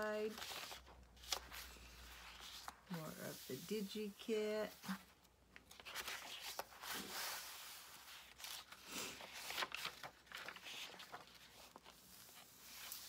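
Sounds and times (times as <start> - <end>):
paper pages flipping: 0.0 - 3.7, 4.7 - 13.0.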